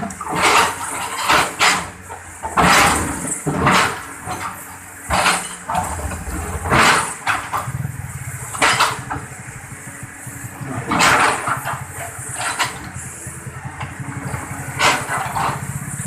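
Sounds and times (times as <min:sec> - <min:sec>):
excavator digging bursts: 0:00.0 - 0:16.0
excavator engine rumbling: 0:00.0 - 0:16.0.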